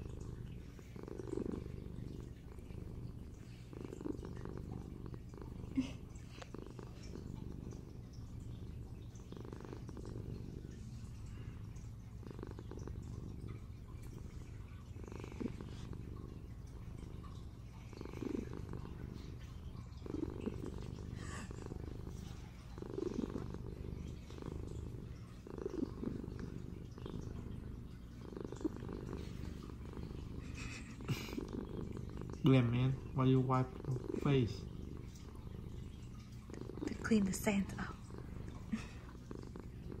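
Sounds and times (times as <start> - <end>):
kitten purring: 0.0 - 40.0.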